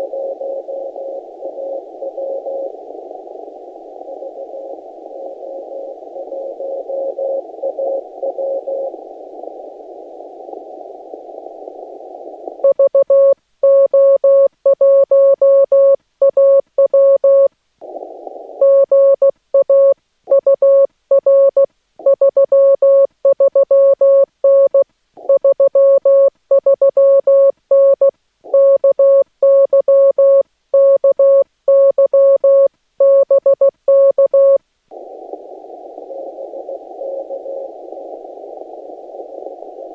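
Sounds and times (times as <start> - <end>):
receiver hiss: 0.0 - 39.9.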